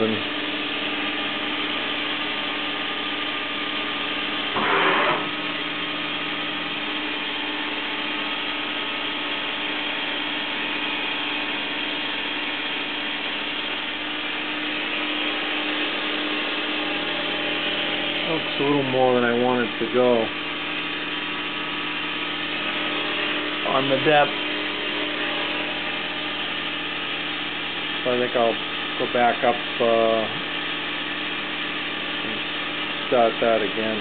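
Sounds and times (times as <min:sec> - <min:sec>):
machine spindle hum and whine: 0:00.0 - 0:34.0.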